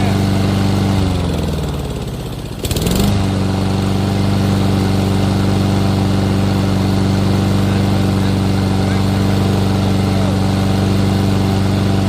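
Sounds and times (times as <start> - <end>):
lawn mower engine: 0.0 - 12.0.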